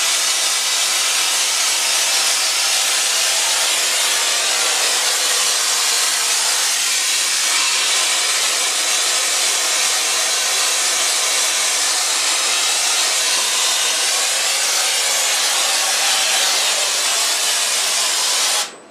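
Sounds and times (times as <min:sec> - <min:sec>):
spray gun hissing: 0:00.0 - 0:18.8.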